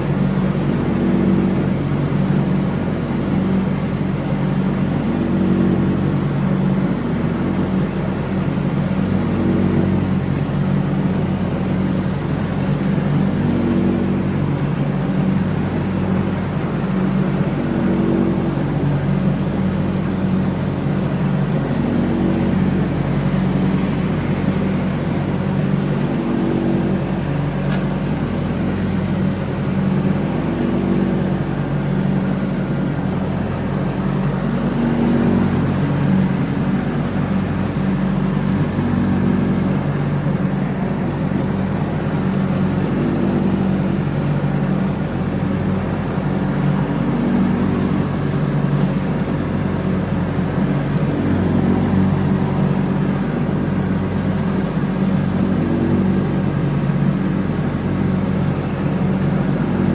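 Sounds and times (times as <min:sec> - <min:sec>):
lawn tractor engine mowing: 0:00.0 - 0:59.9.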